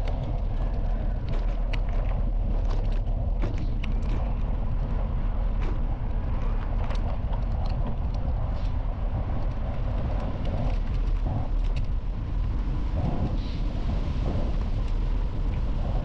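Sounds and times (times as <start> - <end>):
bicycle tyres rolling on gravel: 0.0 - 16.0.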